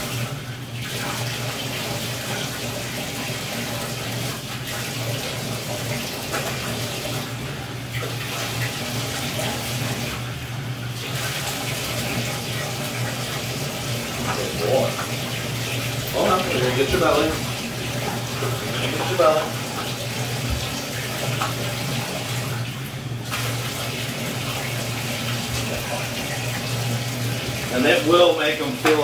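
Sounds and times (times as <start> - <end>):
faucet water splashing into tub: 0.0 - 29.0.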